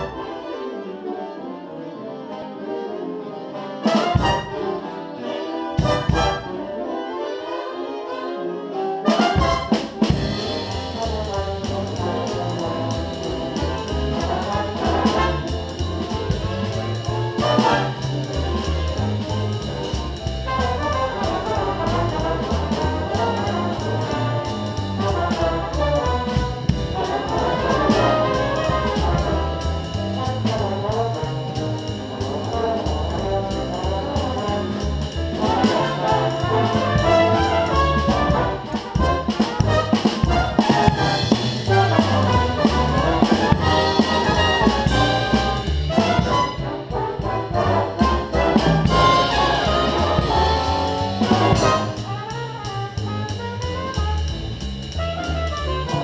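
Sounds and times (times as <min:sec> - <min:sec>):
trumpets and trombones hits: 0:00.0 - 0:00.3, 0:03.8 - 0:05.0, 0:05.8 - 0:06.9, 0:08.7 - 0:56.0
jazz big band swinging: 0:00.0 - 0:01.4, 0:02.2 - 0:56.0
drum kit: 0:03.9 - 0:04.6, 0:05.8 - 0:06.6, 0:09.1 - 0:56.0
upright bass: 0:05.8 - 0:06.5, 0:09.2 - 0:56.0.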